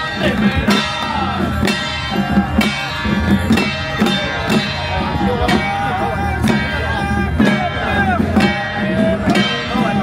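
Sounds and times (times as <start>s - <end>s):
loud music with drum beat: 0.0s - 10.0s.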